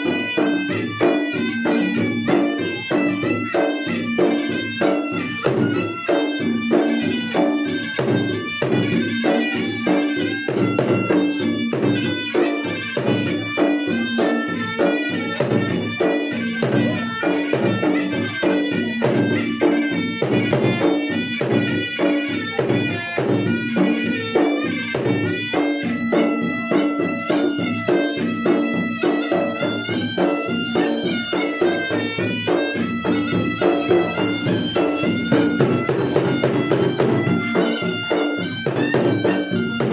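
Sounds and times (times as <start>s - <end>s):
drums beaten fast: 0.0s - 39.9s
reedy wind instrument melody: 0.0s - 39.9s.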